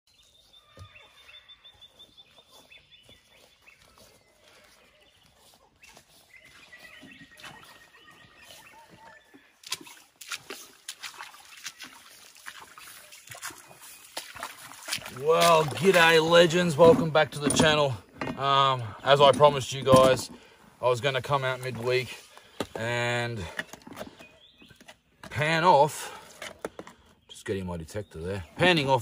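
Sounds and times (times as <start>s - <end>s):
footsteps crunching on stones and water: 0.1s - 26.7s
birds calling and chirping: 0.1s - 29.0s.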